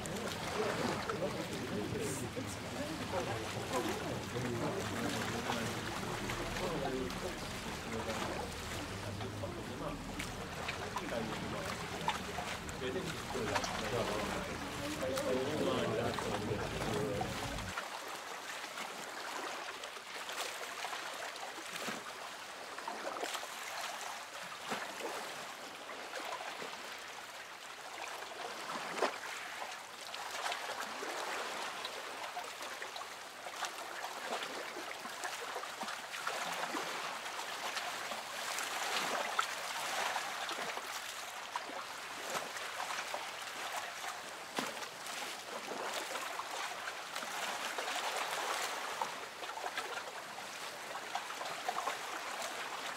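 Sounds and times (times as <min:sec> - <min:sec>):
seawater lapping and sloshing: 0:00.0 - 0:52.9
small water splashes: 0:00.0 - 0:52.9.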